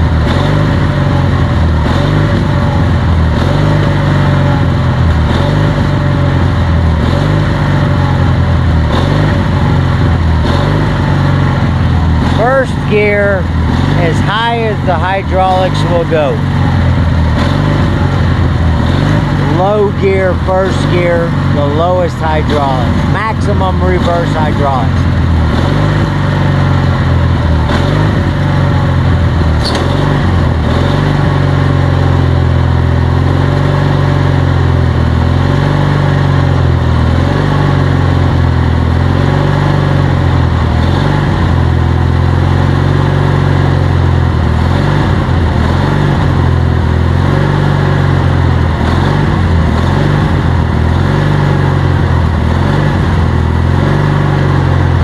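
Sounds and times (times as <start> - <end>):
small tractor engine running: 0.0 - 55.0.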